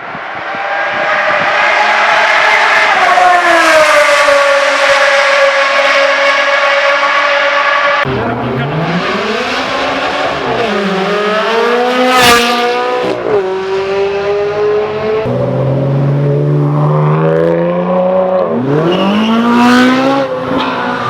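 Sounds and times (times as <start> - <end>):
car engine revving and accelerating: 0.0 - 21.0.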